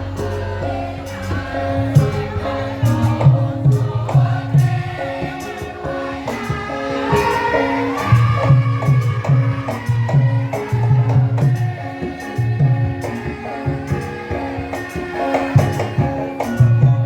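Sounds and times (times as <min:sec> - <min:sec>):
drum strokes: 0:00.0 - 0:17.0
person singing: 0:00.0 - 0:17.0.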